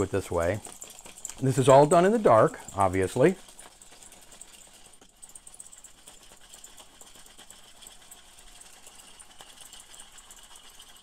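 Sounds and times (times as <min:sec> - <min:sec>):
film reel ticking and whirring: 0:00.0 - 0:11.0.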